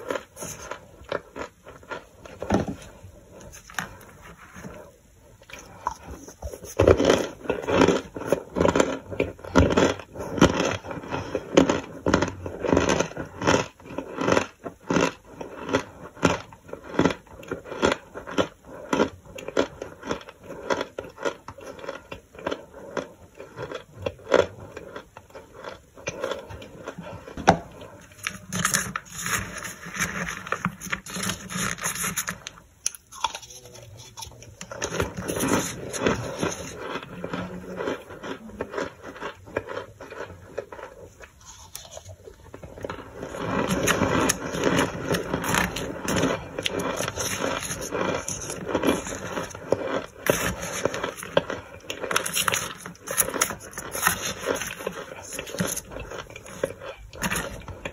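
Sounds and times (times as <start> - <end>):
spoon crunching toasted chunks: 5.6 - 57.9.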